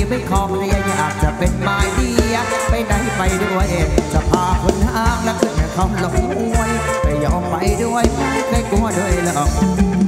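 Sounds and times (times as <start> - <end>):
band music with drum and bass: 0.0 - 10.0.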